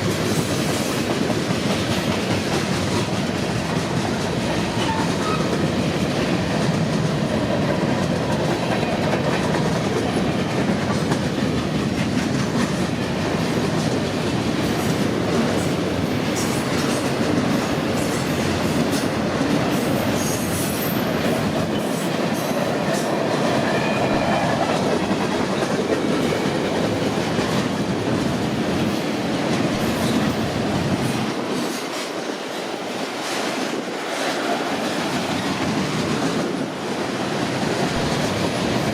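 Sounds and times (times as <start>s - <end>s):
freight train rumbling: 0.0s - 38.9s
train wheel clatter: 0.0s - 38.9s.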